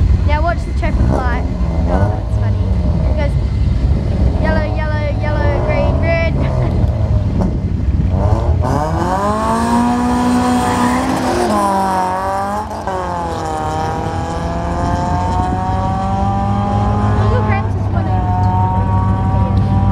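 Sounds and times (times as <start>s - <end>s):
car engines revving through gears: 0.0s - 19.9s.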